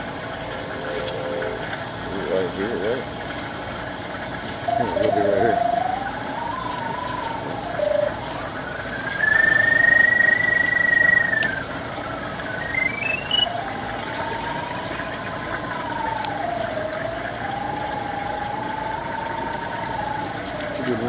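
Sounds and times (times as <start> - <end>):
pipe locator tone sliding in pitch: 0.0 - 3.1, 4.5 - 21.0
steady mechanical hum: 0.0 - 21.0.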